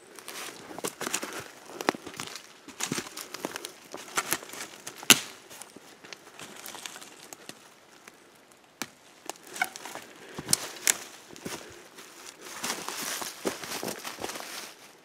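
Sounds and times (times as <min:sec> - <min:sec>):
twigs snapping: 0:00.1 - 0:14.8
footsteps in dry leaves: 0:00.2 - 0:08.0, 0:09.1 - 0:15.0.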